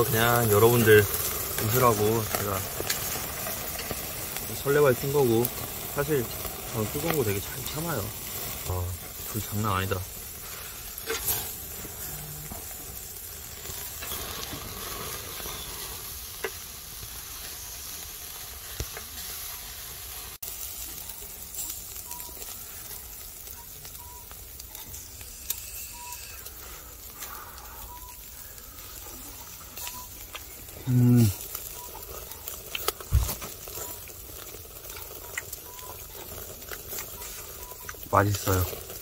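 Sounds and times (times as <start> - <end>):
charcoal clicks and crackles: 0.0 - 39.0
meat sizzling on a grill: 0.0 - 39.0.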